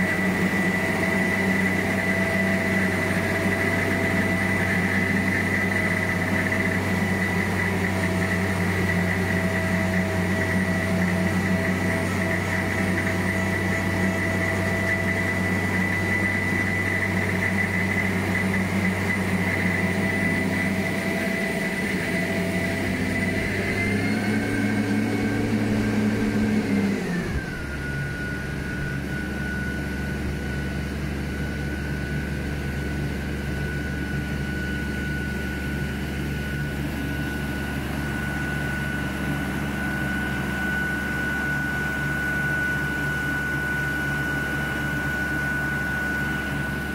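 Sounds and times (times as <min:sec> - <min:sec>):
diesel engine running: 0:00.0 - 0:46.9
high steady whine: 0:00.0 - 0:46.9.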